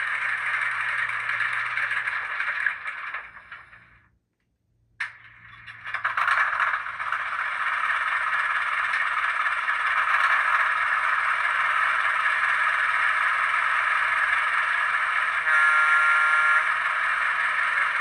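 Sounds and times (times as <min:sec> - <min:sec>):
model train diesel engine sound: 0:00.0 - 0:04.1, 0:05.0 - 0:18.0.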